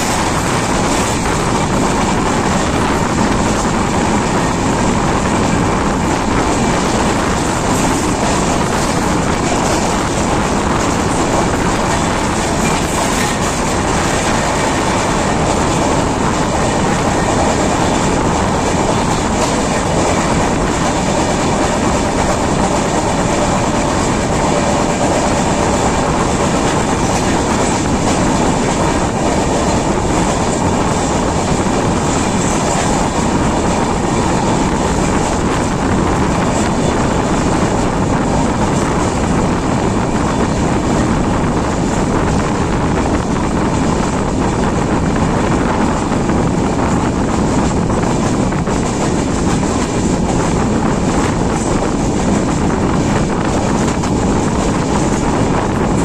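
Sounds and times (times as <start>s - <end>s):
clickety-clack of rail joints: 0.0s - 56.0s
train wheels rumbling on rails: 0.0s - 56.0s.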